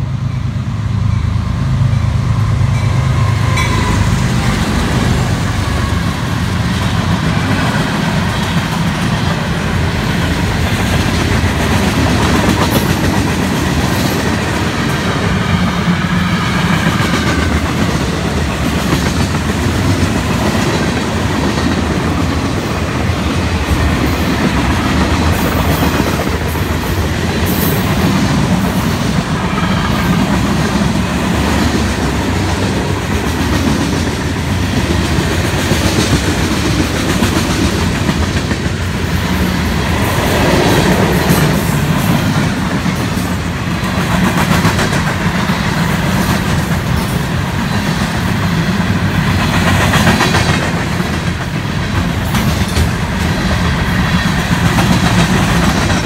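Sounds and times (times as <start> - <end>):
freight train rumbling past: 0.0 - 56.0
wheels clickety-clack: 6.6 - 56.0.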